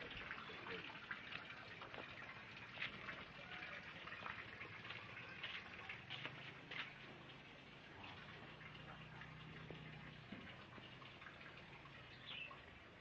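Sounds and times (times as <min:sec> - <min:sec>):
water dripping: 0:00.0 - 0:13.0
water running and splashing: 0:00.0 - 0:13.0.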